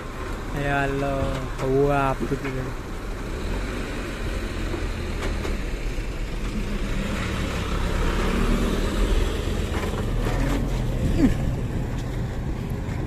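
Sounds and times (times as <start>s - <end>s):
diesel truck engines running: 0.0s - 13.0s.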